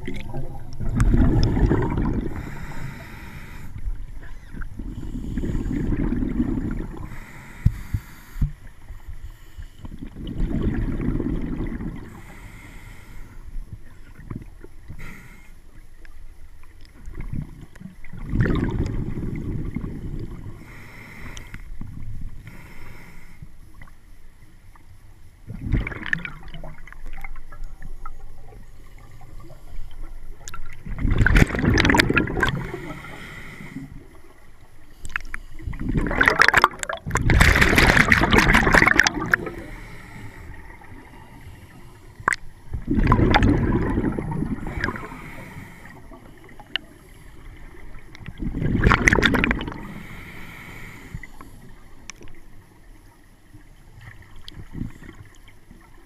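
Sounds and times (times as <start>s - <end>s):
underwater bubbles gurgling: 0.0s - 24.0s, 24.7s - 56.0s.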